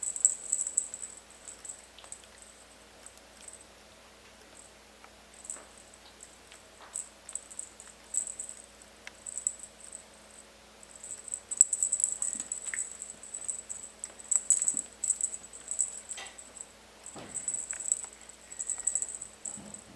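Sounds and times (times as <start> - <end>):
light pattering of play: 0.0 - 19.9.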